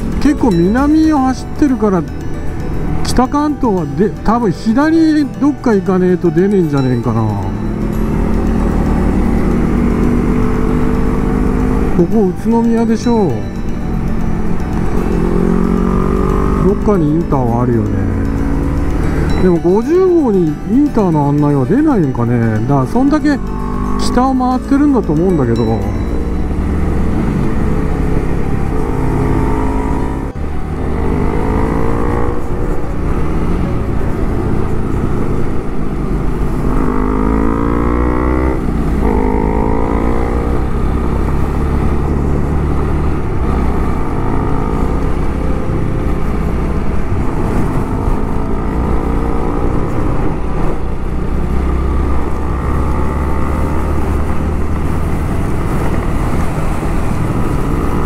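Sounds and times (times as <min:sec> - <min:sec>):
motorcycle engine accelerating: 0:06.0 - 0:21.0, 0:21.9 - 0:58.0.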